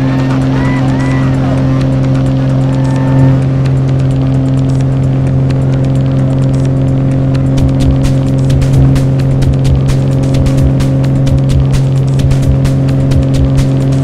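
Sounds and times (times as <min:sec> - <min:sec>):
propeller engine droning: 0:00.0 - 0:14.0.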